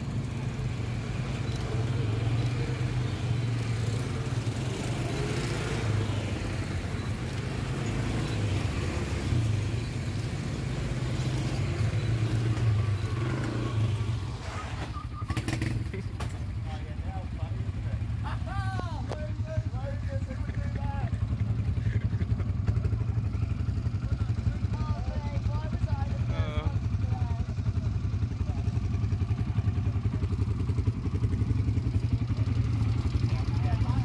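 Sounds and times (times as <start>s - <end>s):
quad bike engines droning: 0.0s - 34.0s.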